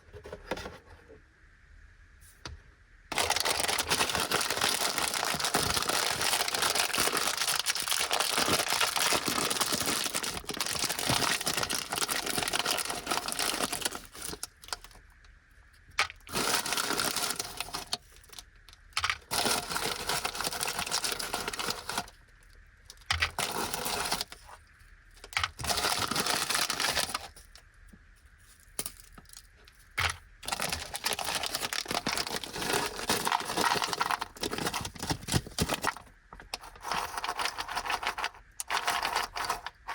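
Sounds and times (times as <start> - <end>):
plastic wrapper crinkling: 3.1 - 15.0, 16.0 - 22.2, 22.9 - 24.6, 25.2 - 27.6, 28.7 - 39.9.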